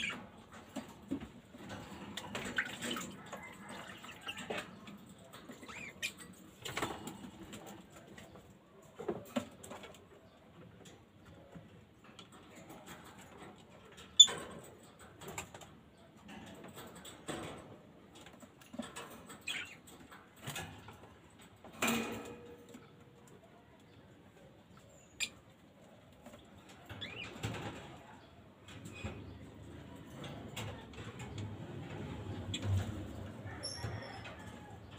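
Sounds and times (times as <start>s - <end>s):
birds fluttering in a cage: 0.0s - 34.9s.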